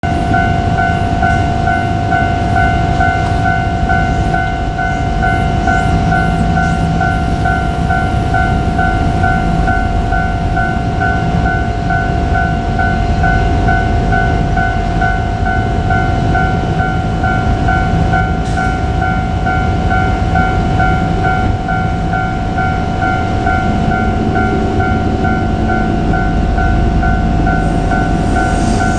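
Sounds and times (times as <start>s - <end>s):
diesel railcar rumble: 0.0s - 28.9s
level crossing bell ringing: 0.0s - 28.9s.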